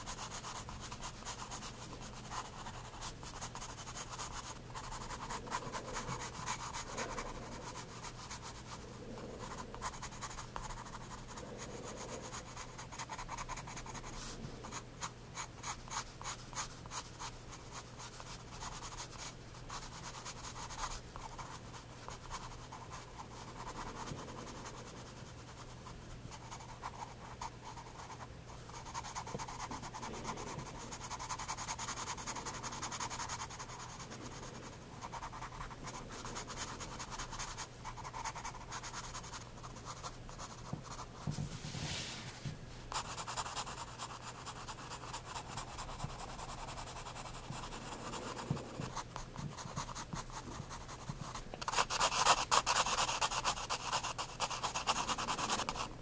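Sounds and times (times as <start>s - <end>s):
pencil scratching on paper: 0.0s - 42.3s, 42.9s - 55.9s
faint low hum: 0.0s - 56.0s.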